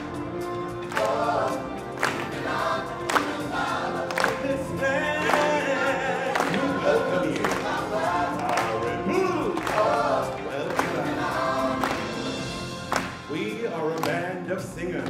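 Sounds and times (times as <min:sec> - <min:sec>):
choir singing: 0:00.0 - 0:13.8
drum beats: 0:00.0 - 0:15.0.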